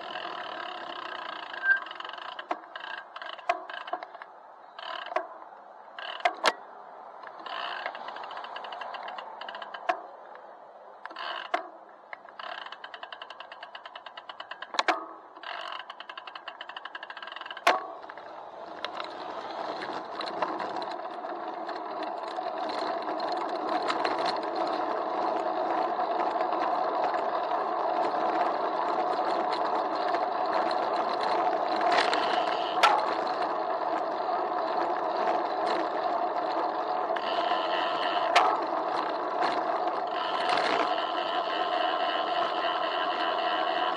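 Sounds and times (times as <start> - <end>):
bicycle freewheel ticking: 0.0 - 4.2, 4.8 - 5.2, 5.9 - 6.4, 7.3 - 9.9, 12.3 - 14.8, 15.4 - 43.9
muffled road rumble: 0.0 - 43.9.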